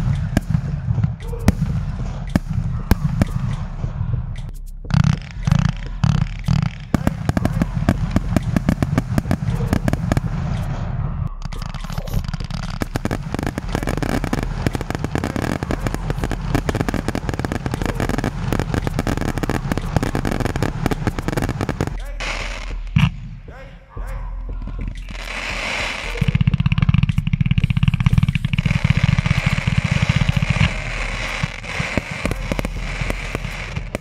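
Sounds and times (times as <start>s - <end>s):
fireworks crackling and popping: 0.0s - 3.8s, 4.4s - 10.8s, 11.4s - 23.4s, 24.7s - 34.0s
fireworks bangs: 0.0s - 23.5s, 24.6s - 34.0s.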